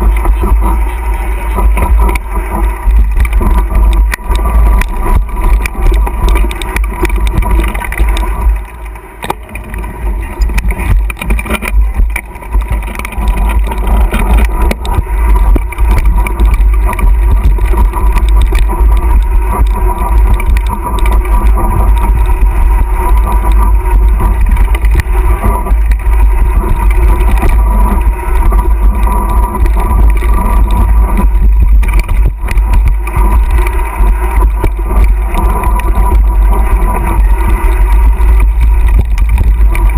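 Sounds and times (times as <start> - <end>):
mountain bike rattling on trail: 0.0 - 39.9
wind buffeting microphone: 0.0 - 39.9.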